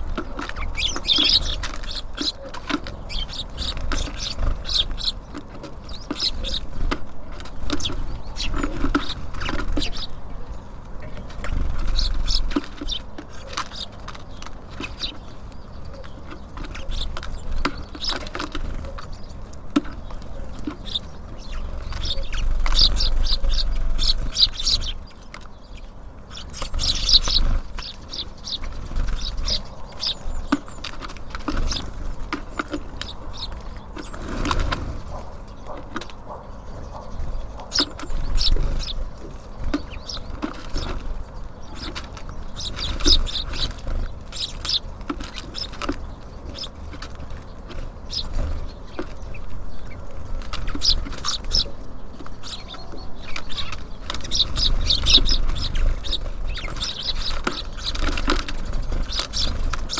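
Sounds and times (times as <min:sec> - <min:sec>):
birds chirping and tweeting: 0:00.0 - 0:59.9
birds pecking and tapping: 0:00.0 - 0:59.9.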